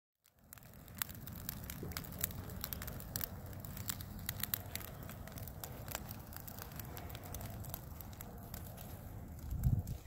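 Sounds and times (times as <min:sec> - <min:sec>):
wood fire crackling: 0:00.2 - 0:10.0
sharp pops of fire: 0:00.3 - 0:10.0
low rumble: 0:00.6 - 0:10.0.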